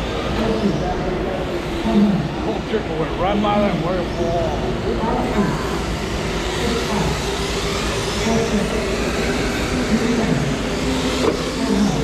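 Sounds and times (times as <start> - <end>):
rc car motors whirring: 0.0 - 12.0.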